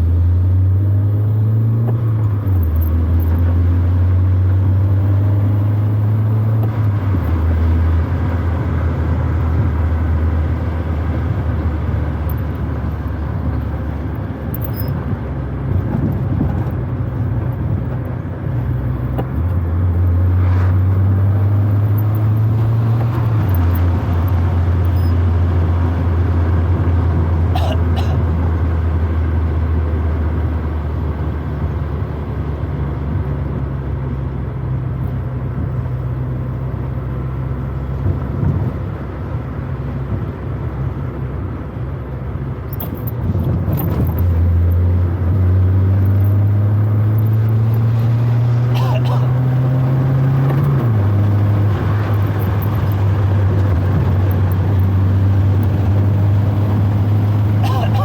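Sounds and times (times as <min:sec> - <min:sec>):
car engine drone from cabin: 0:00.0 - 0:58.0.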